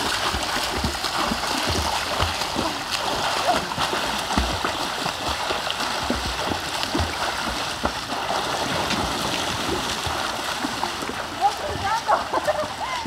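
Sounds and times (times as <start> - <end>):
arms slapping water surface: 0.0 - 13.0
pool water splashing: 0.0 - 13.0.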